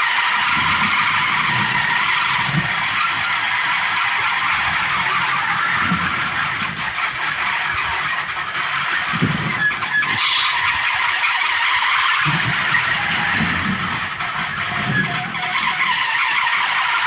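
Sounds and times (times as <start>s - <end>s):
wind rumbling: 0.0s - 16.9s
wooden propeller whirring: 0.0s - 17.0s.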